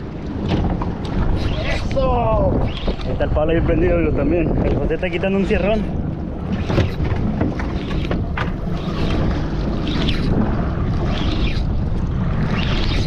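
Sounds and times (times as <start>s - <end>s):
water against boat hull: 0.0s - 13.0s
wind buffeting microphone: 0.0s - 13.0s.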